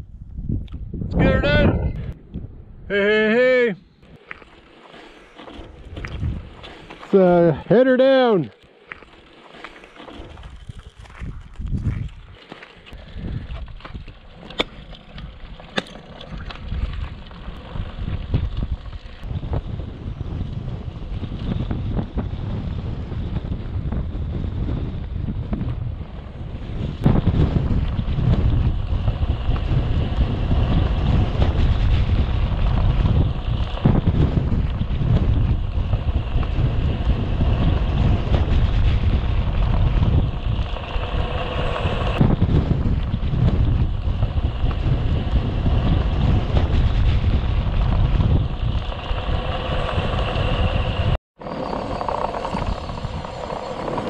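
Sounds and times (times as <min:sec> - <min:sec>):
wind buffeting microphone: 0:00.0 - 0:03.2, 0:04.0 - 0:07.8, 0:09.5 - 0:54.0.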